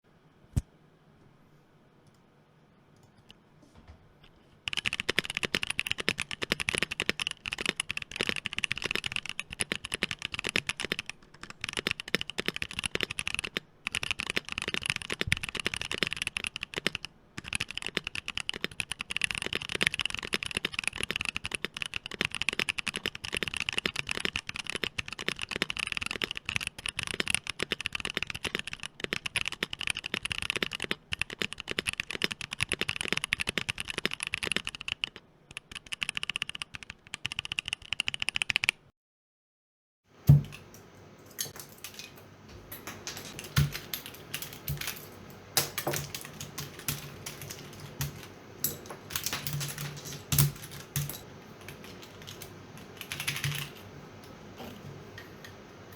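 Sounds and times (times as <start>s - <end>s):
fast typing on mechanical keyboard: 4.6s - 38.9s, 42.9s - 54.0s.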